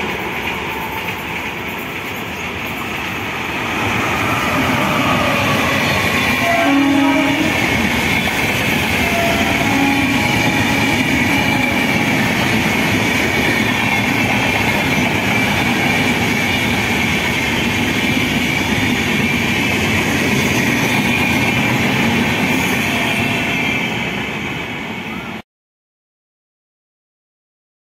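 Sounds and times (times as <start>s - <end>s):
train wheels rumbling on rail: 0.0s - 25.4s.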